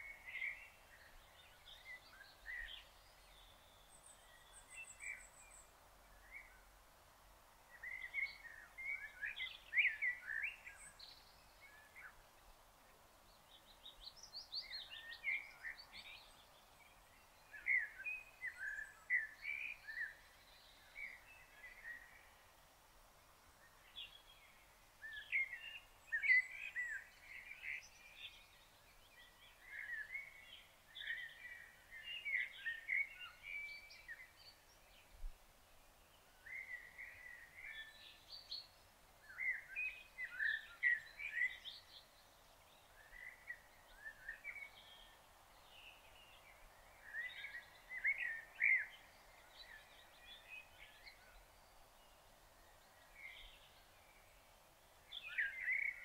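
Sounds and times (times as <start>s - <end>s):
faint background hiss: 0.0s - 56.0s
songbirds chirping: 0.0s - 56.0s.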